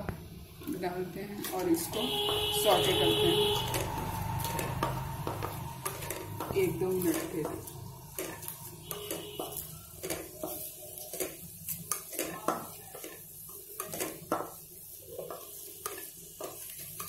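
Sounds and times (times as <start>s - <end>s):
faint sizzle: 0.0s - 17.0s
wooden spatula scraping a pan: 1.4s - 17.0s.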